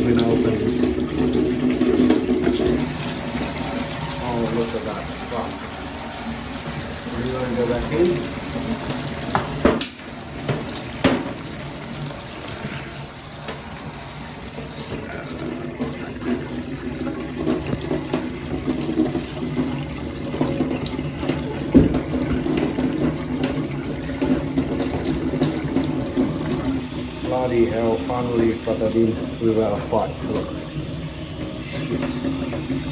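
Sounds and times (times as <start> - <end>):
water running from tap: 0.0 - 32.9.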